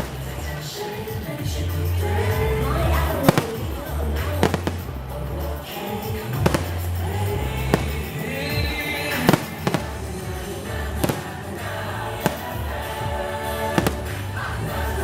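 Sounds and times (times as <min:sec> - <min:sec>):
music with heavy bass: 0:00.0 - 0:15.0
fireworks bangs: 0:02.6 - 0:15.0.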